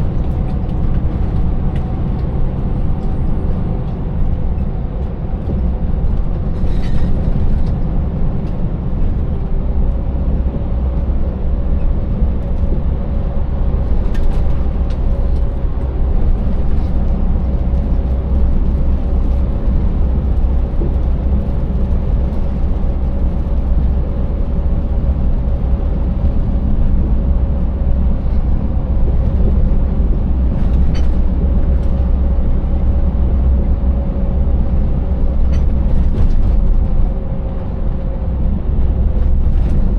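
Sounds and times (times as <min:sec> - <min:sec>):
diesel truck engine rumble: 0:00.0 - 0:39.9.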